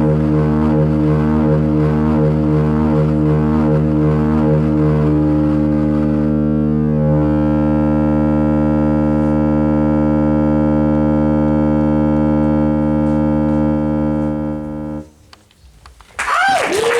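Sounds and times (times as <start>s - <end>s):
electronic drone chord: 0.0s - 15.1s.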